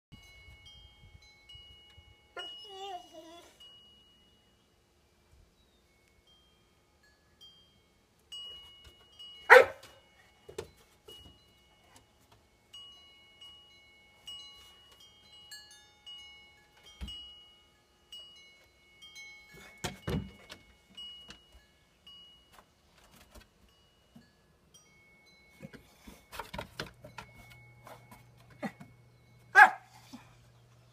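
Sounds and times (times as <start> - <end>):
wind chimes ringing: 0.1 - 30.9.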